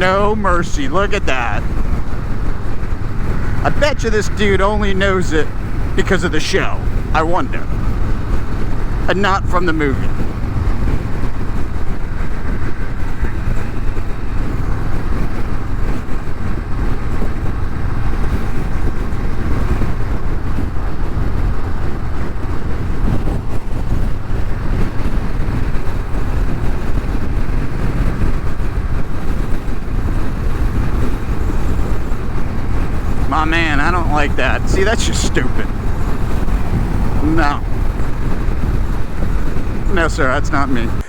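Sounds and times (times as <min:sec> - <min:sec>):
motorcycle engine rumble: 0:00.0 - 0:41.0
wind blast on microphone: 0:00.0 - 0:41.0.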